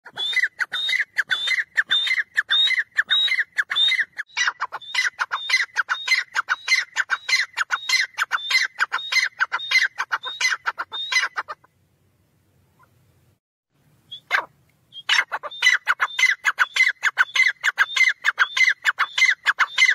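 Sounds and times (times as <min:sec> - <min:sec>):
bird calling shrill phrase: 0:00.1 - 0:11.7, 0:14.1 - 0:19.9.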